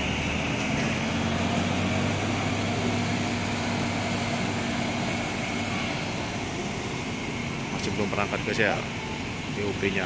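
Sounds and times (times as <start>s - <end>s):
bus diesel engine idling: 0.0s - 10.0s.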